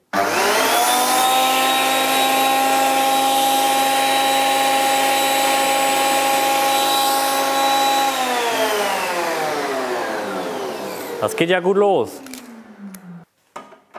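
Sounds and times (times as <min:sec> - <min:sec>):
planer whining: 0:00.1 - 0:13.3
planer winding down: 0:00.1 - 0:13.3.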